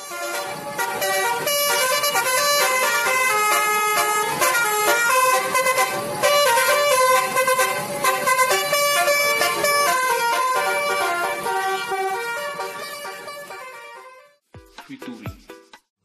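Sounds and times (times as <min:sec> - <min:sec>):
multi-tone bus air horn tune: 0:00.0 - 0:14.4.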